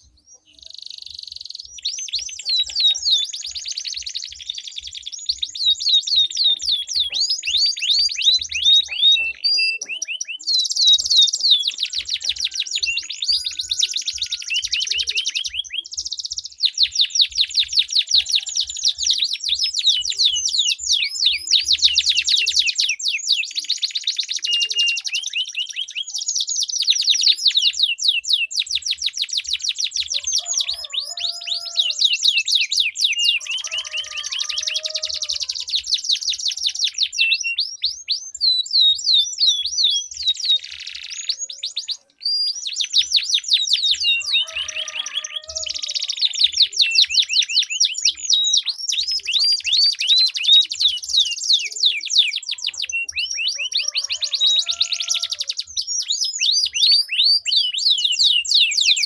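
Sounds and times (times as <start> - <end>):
canaries singing trills: 0.0 - 59.0.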